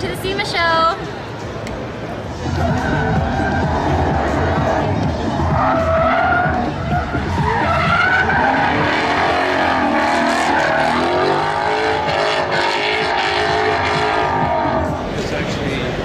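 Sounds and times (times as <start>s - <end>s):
engine low rumble: 0.0s - 16.0s
car tyres squealing: 2.3s - 15.2s.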